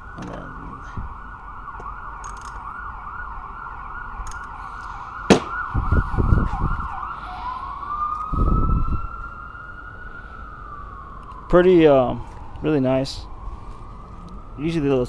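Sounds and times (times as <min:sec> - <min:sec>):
emergency siren yelp and wail: 0:00.0 - 0:15.0.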